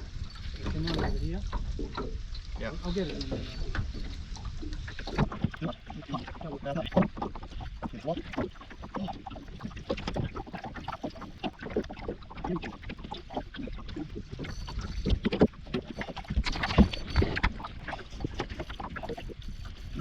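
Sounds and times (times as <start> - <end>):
gear knocking in a boat: 0.0 - 20.0.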